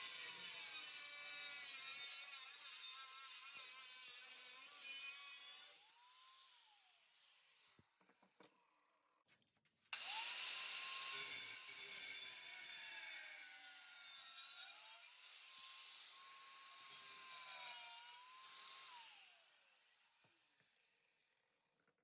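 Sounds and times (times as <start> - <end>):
power saw cutting sheet steel: 0.0 - 8.0, 10.0 - 21.8.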